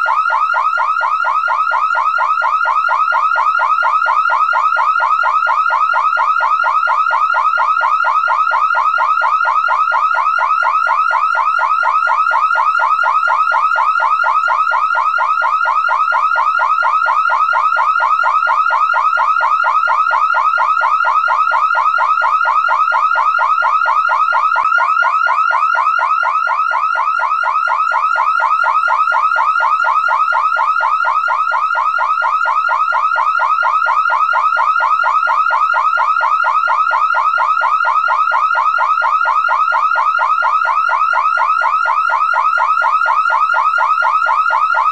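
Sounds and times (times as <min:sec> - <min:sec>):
car alarm siren: 0:00.0 - 0:44.9.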